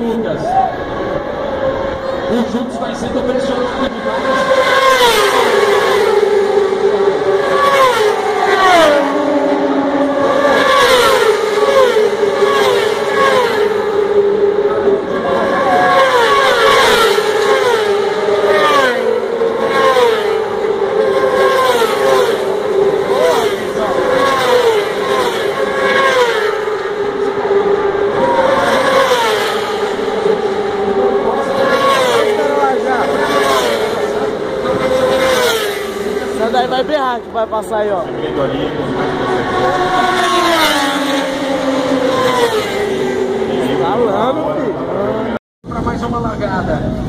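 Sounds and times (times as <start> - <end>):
racing motorcycle engines passing: 0.0 - 47.0.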